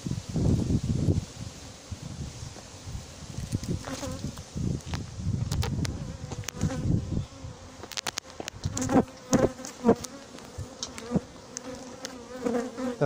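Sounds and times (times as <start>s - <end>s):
bees buzzing: 0.4s - 13.0s.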